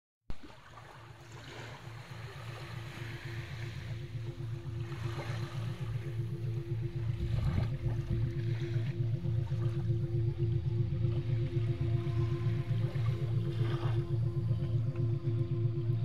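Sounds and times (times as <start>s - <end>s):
sea waves lapping at shore: 0.3s - 15.4s
pulsing meditation tone: 0.4s - 16.0s.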